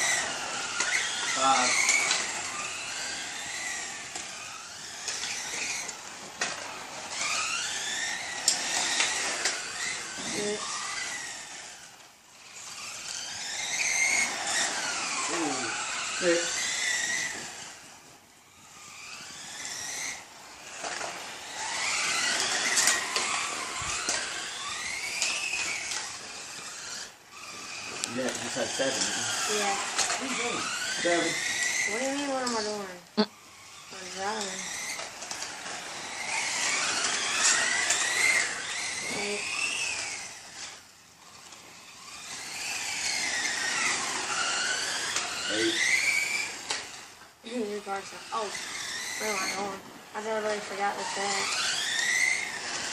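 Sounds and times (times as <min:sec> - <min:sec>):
rc car electric motors whining: 0:00.0 - 0:52.9.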